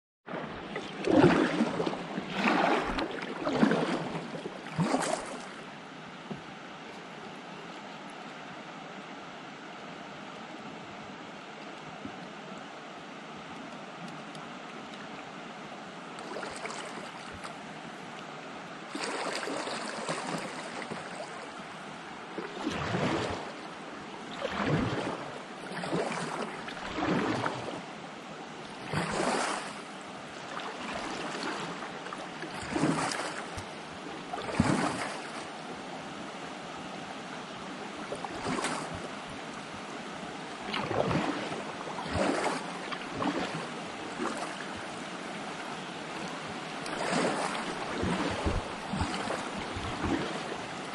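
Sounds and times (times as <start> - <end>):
paddle splashing water: 0.2 - 50.9
river current rushing: 0.3 - 50.9.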